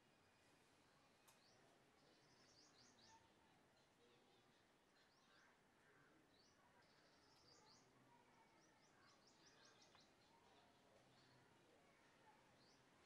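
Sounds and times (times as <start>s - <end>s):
faint bird chirping: 0.0s - 13.0s
low steady hiss: 0.0s - 13.0s.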